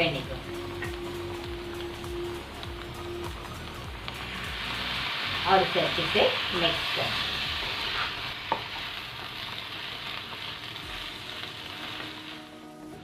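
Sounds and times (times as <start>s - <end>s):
rice sizzling in a pan: 0.0s - 13.0s.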